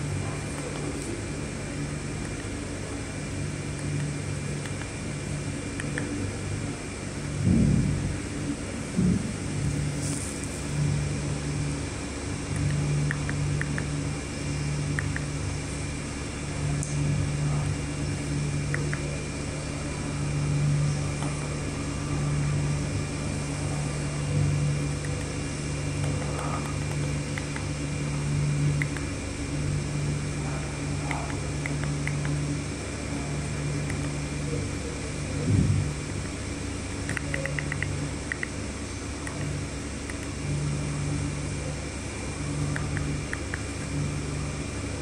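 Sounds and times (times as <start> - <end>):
projector fan humming: 0.0 - 45.0.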